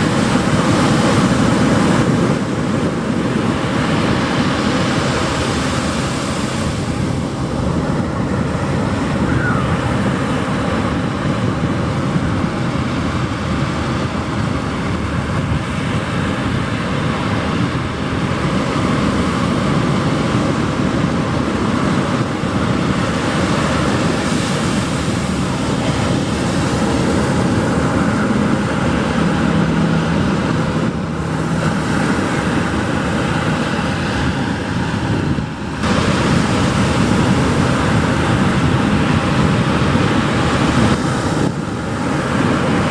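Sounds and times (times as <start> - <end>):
surf breaking on beach: 0.0 - 42.9.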